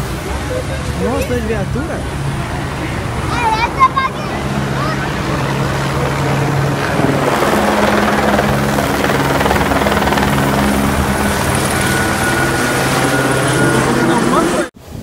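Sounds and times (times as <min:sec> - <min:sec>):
helicopter engine and rotor drone: 0:00.3 - 0:14.7.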